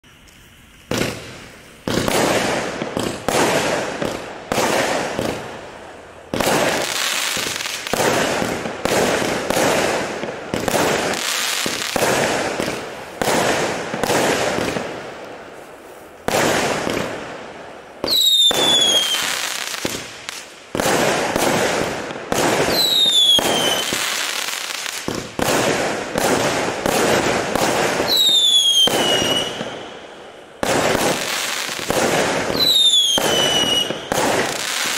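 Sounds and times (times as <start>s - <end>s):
firework bangs: 0.8s - 34.9s.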